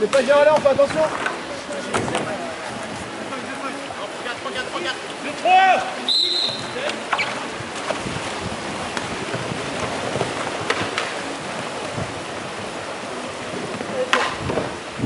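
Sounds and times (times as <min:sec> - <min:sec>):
water rushing hiss: 0:00.0 - 0:15.0.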